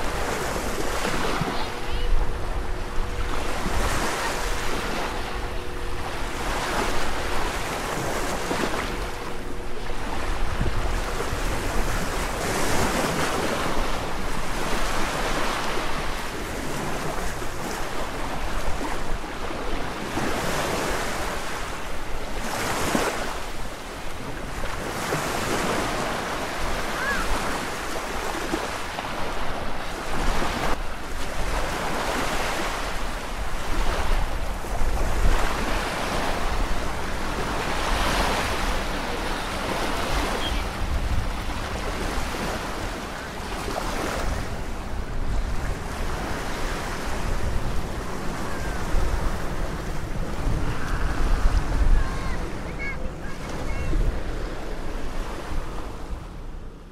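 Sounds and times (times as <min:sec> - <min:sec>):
wind buffeting microphone: 0:00.0 - 0:28.6, 0:29.2 - 0:56.7
small waves breaking on beach: 0:00.0 - 0:56.9.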